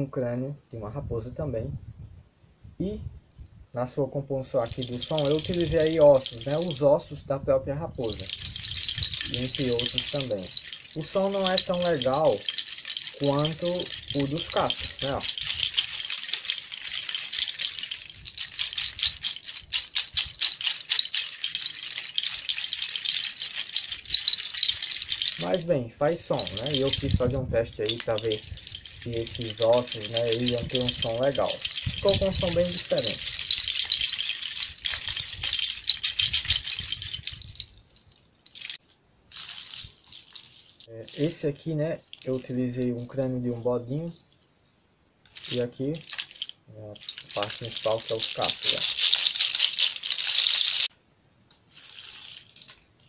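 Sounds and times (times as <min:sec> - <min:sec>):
bone rattle clattering: 0:04.6 - 0:07.0, 0:07.9 - 0:43.1, 0:45.2 - 0:50.9, 0:51.7 - 0:53.0.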